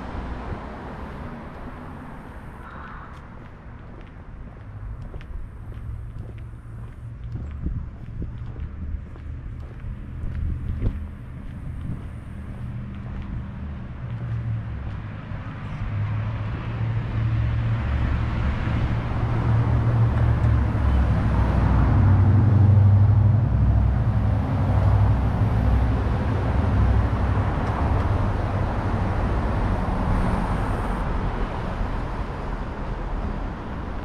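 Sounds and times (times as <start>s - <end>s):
vehicle passing by: 0.0s - 34.0s.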